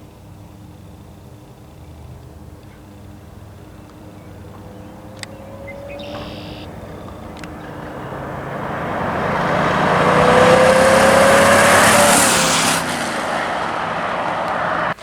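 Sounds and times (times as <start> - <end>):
car engine accelerating: 1.8 - 15.0.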